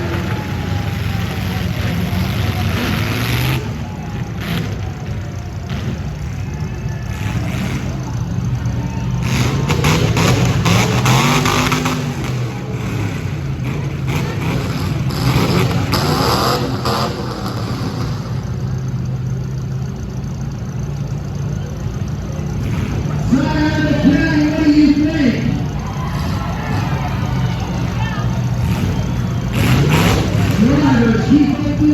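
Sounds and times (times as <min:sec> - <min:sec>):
car engines revving: 0:00.0 - 0:31.9.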